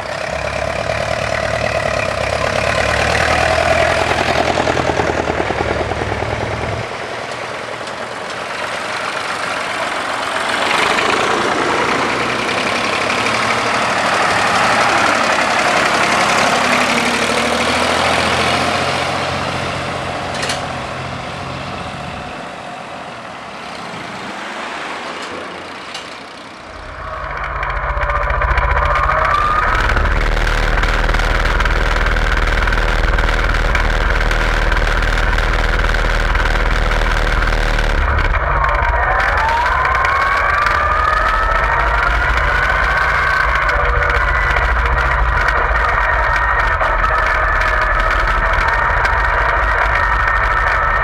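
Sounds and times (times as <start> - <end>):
tractor engines driving past: 0.0 - 51.0.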